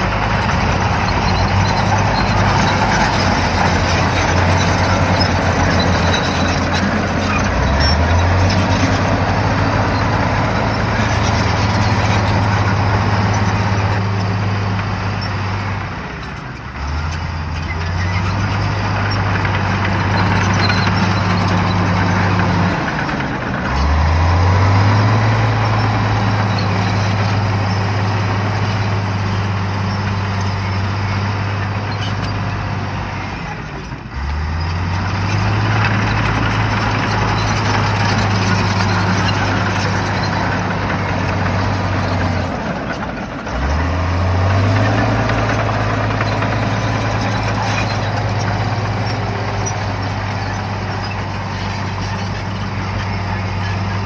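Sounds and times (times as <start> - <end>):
bulldozer diesel engine revving: 0.0 - 54.0.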